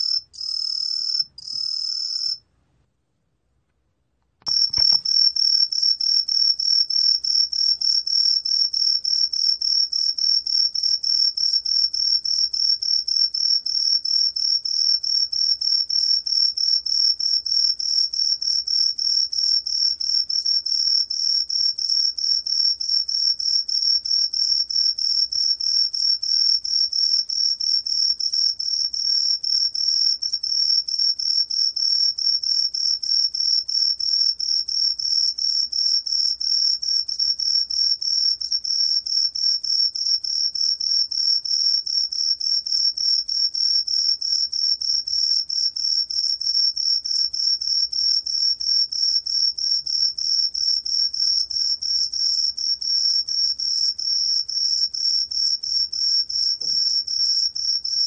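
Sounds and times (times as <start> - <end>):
cricket chirping: 0.0 - 2.4, 4.4 - 58.0.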